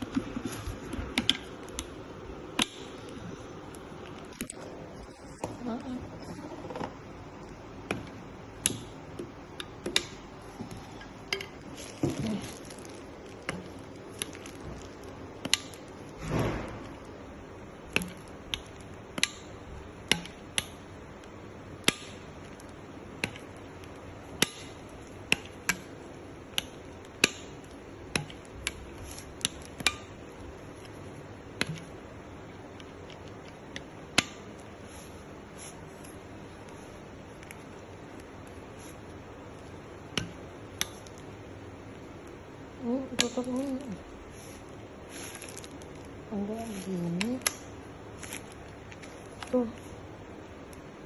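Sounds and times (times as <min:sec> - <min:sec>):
hard objects clicking and knocking: 0:00.0 - 0:05.6, 0:06.3 - 0:49.8.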